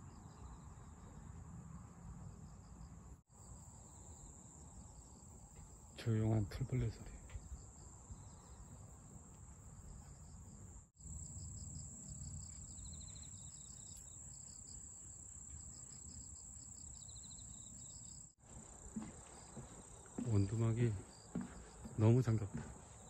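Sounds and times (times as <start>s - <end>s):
insects chirping and trilling: 2.3s - 23.0s.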